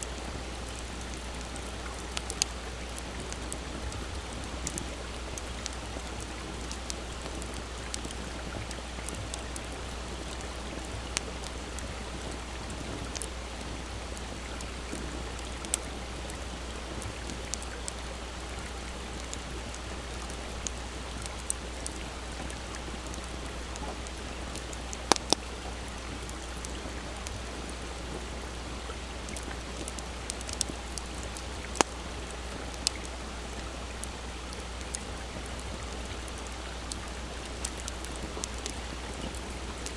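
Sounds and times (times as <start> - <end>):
campfire crackling and popping: 0.0 - 39.9
stream rushing: 0.0 - 39.9.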